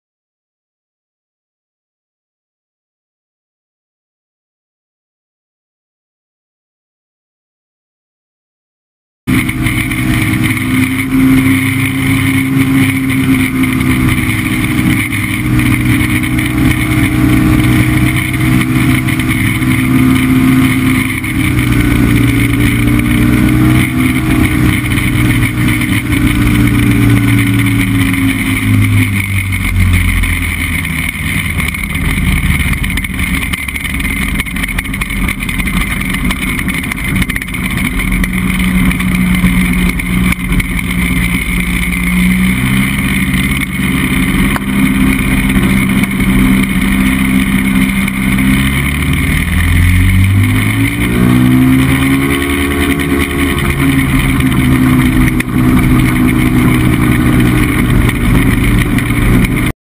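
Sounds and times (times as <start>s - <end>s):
light aircraft engine and propeller: 9.3s - 59.7s.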